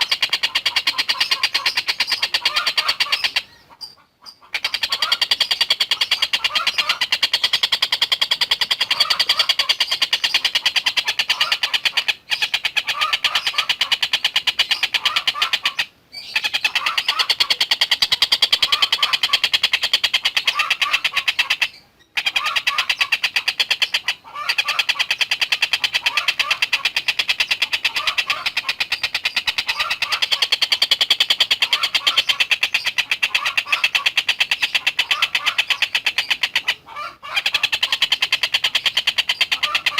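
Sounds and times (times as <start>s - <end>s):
kingfisher rapid high-pitched chatter: 0.0s - 39.9s.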